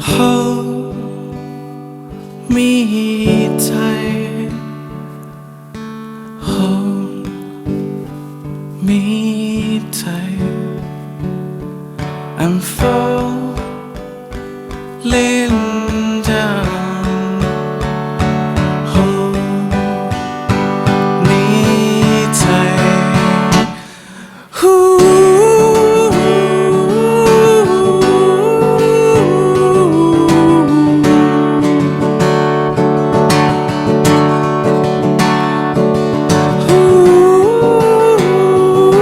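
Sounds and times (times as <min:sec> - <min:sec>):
strummed acoustic guitar: 0:00.0 - 0:39.0
stepping melody line: 0:00.1 - 0:39.0.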